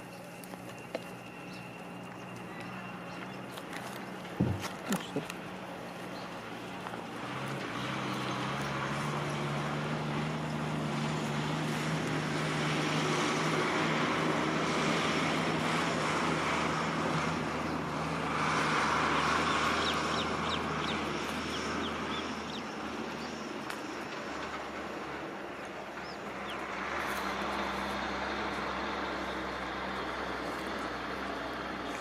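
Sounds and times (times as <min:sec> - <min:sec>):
engine low hum: 0:00.0 - 0:32.0
vehicles passing tyre noise: 0:00.0 - 0:32.0.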